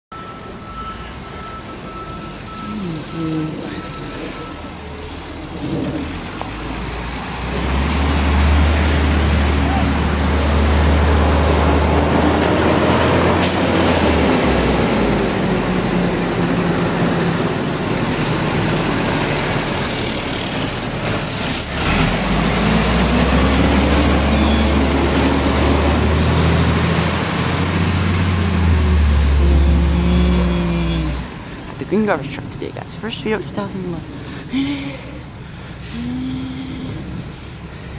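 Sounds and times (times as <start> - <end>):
garbage truck engine rumble: 0.2 - 37.9.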